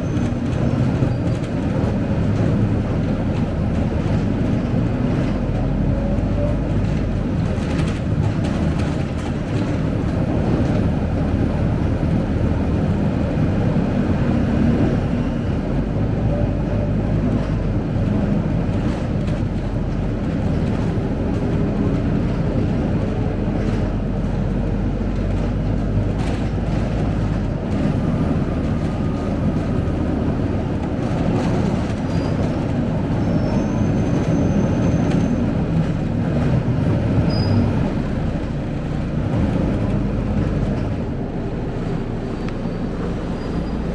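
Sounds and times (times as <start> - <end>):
bus diesel engine running: 0.0 - 43.9
road and drivetrain rumble: 0.0 - 43.9.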